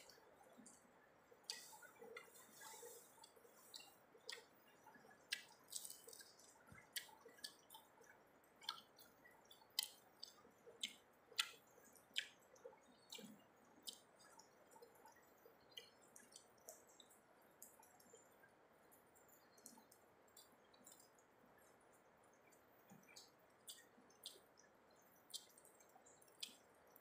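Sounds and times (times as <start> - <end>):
man chewing with lip smacks: 0.0 - 27.0.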